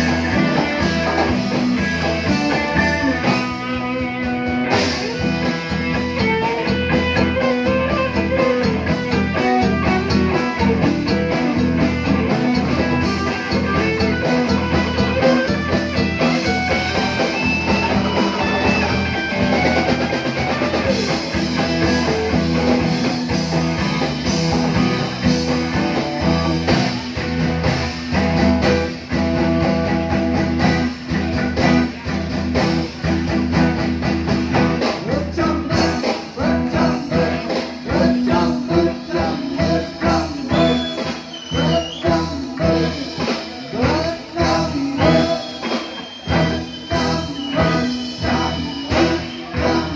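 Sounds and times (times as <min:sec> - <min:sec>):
live band playing instrumental: 0:00.0 - 0:49.9.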